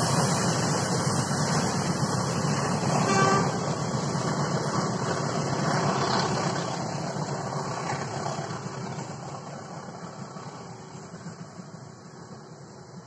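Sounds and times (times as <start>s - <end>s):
train coaches rolling on rails: 0.0s - 13.0s.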